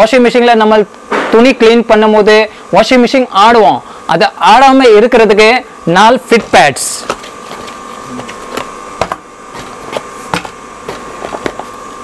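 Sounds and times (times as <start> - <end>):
steady high hum: 0.0 - 12.0.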